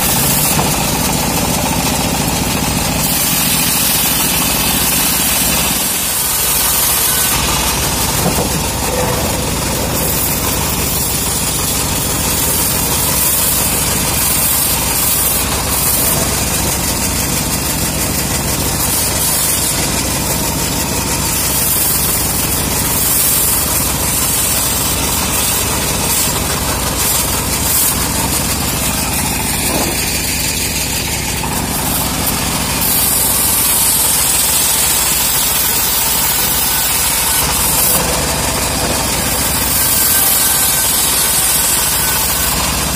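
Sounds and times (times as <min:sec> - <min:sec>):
bandsaw mill drone: 0:00.0 - 0:42.9
saw blade hissing through wood: 0:00.0 - 0:42.9.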